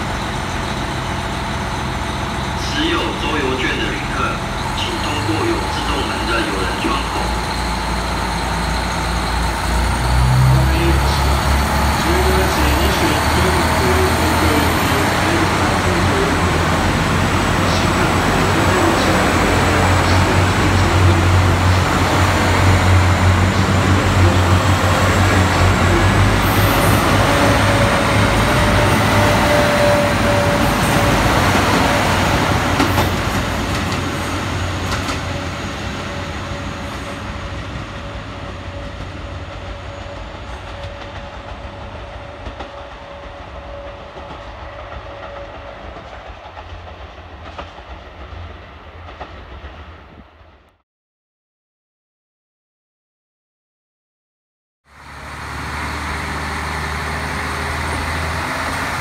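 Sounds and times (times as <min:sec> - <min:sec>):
diesel train engine hum: 0:00.0 - 0:50.4, 0:54.9 - 0:59.0
train wheels on rails: 0:00.0 - 0:50.6, 0:55.0 - 0:59.0.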